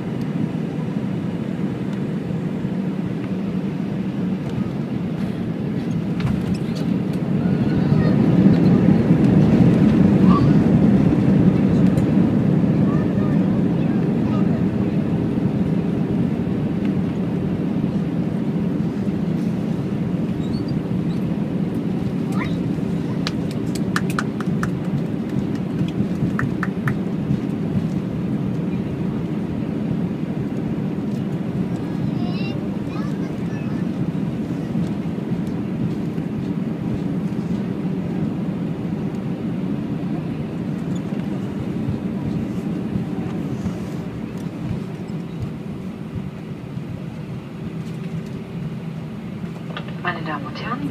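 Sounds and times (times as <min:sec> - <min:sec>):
aircraft rumble on runway: 0:00.0 - 0:50.9.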